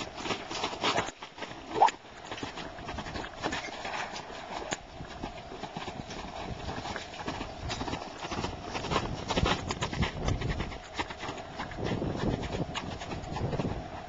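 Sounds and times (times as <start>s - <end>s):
hoofbeats on sand: 0.0s - 14.0s.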